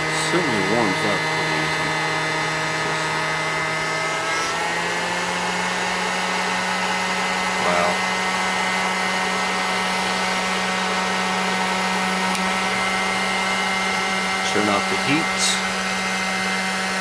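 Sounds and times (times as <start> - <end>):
fan and heater whirring hum: 0.0 - 17.0.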